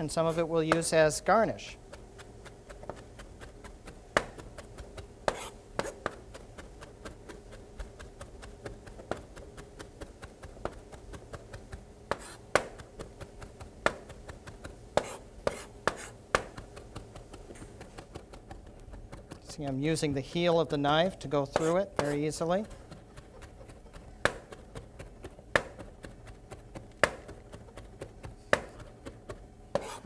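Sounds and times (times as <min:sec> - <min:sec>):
knife chopping on plastic board: 0:00.6 - 0:01.1, 0:01.8 - 0:30.0.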